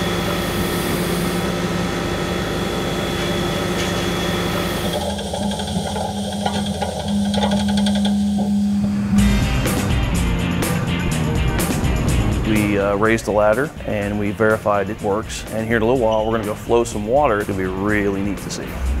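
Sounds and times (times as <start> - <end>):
hydraulic ladder hum: 0.0 - 17.6
truck engine running: 0.0 - 19.0.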